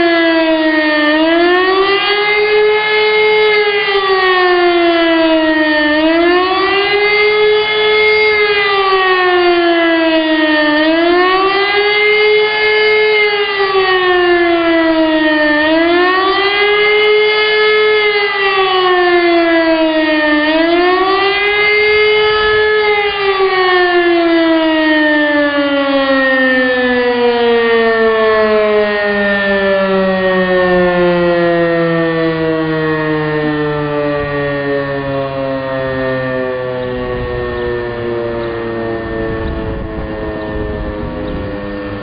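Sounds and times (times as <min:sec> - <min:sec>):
civil-defence siren wailing: 0:00.0 - 0:42.0.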